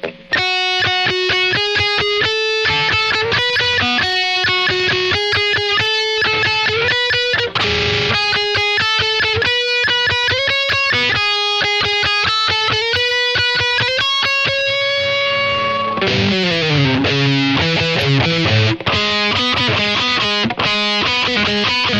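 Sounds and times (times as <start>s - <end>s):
electric guitar picking notes: 0.0s - 21.9s.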